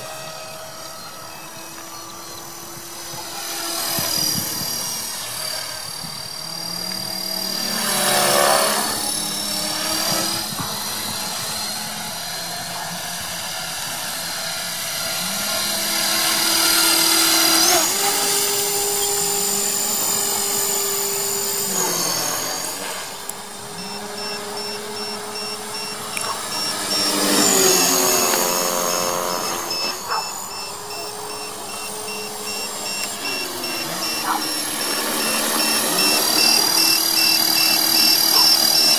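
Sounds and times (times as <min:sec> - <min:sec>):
electric motor and gear whine: 0:00.0 - 0:38.9
helicopter rotor buzz: 0:00.0 - 0:38.9.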